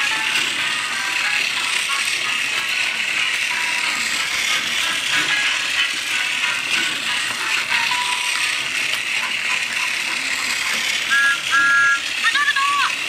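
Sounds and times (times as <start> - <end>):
toy train motor whirring: 0.0 - 13.0
wheels clattering on plastic rails: 0.0 - 13.0.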